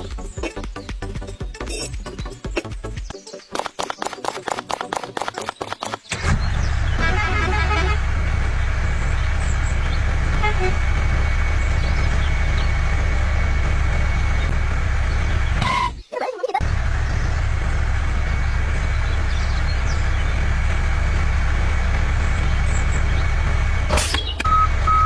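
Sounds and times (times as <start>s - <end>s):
vehicle engine rumbling: 4.6s - 25.0s.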